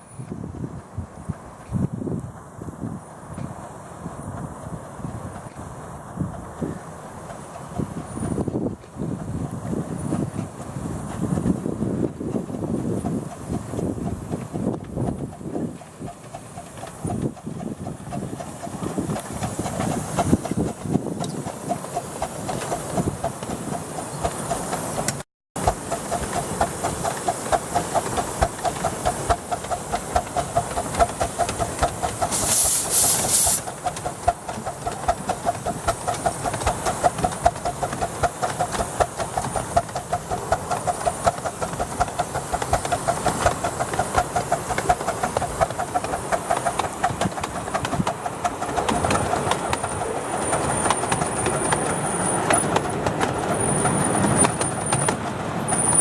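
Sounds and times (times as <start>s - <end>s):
steam locomotive beats and wheel clatter: 0.0s - 56.0s
steam hiss: 2.3s - 55.0s.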